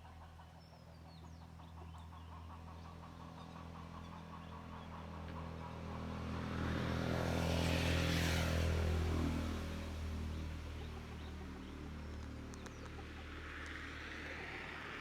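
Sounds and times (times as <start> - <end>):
road vehicle passing by: 0.2 - 15.0.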